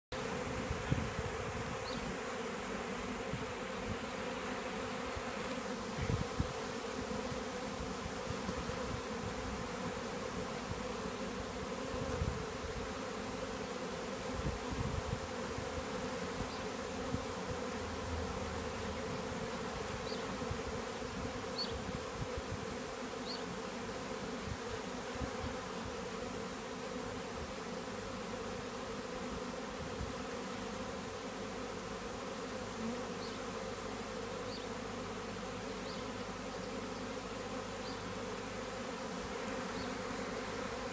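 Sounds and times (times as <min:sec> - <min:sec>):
bee swarm buzzing: 0:00.1 - 0:40.9.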